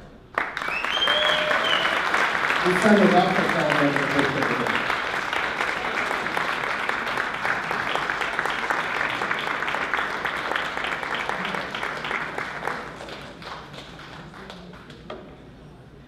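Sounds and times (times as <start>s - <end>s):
audience applauding: 0.3s - 15.1s.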